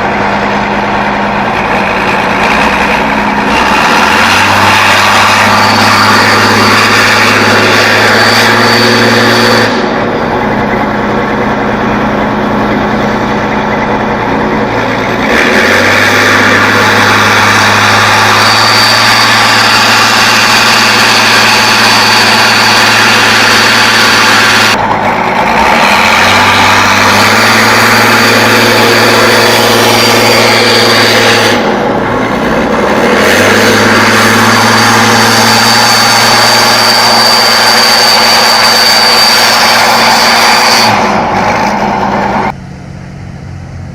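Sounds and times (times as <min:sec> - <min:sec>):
truck engine running under load: 0:00.0 - 0:43.9.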